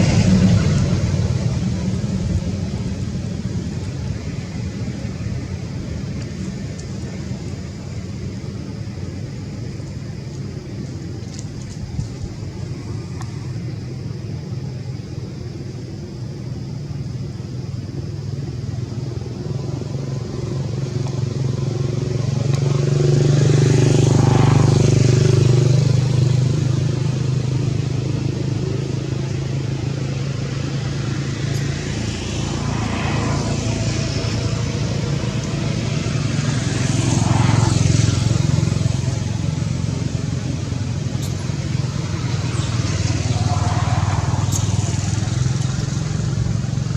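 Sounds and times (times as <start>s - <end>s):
vehicles passing on a street: 0.0s - 46.9s.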